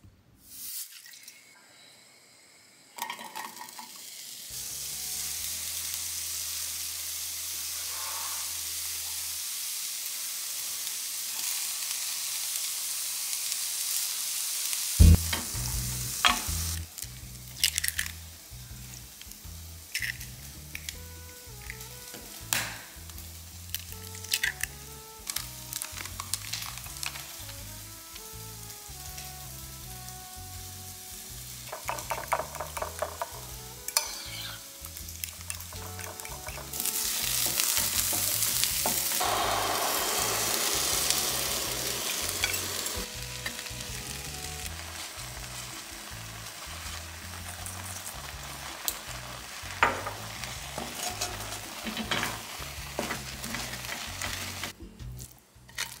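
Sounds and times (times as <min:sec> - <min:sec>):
food sizzling in hot pan: 0:00.4 - 0:01.2, 0:02.1 - 0:54.8.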